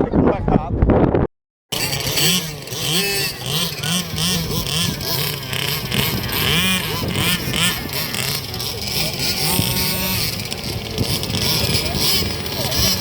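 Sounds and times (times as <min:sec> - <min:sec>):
rc car engines revving: 0:01.7 - 0:13.0.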